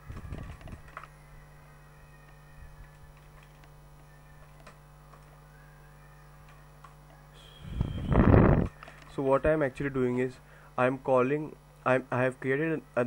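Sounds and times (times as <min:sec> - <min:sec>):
low hum: 0:00.0 - 0:10.7.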